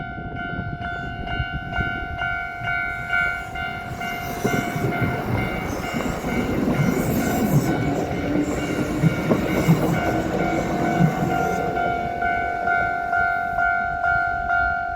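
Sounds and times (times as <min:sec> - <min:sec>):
level crossing warning bell: 0:00.0 - 0:14.9
train wheels rumbling over rail joints: 0:01.6 - 0:14.5.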